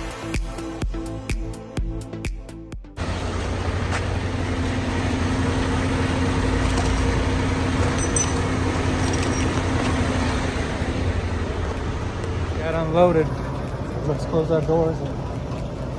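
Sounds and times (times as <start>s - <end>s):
diesel engine humming: 3.0s - 15.9s.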